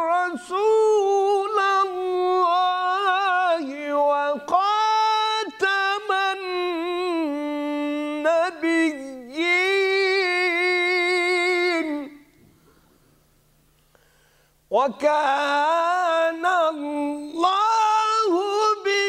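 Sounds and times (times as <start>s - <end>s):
man reciting melodically: 0.0s - 12.3s, 14.7s - 19.0s.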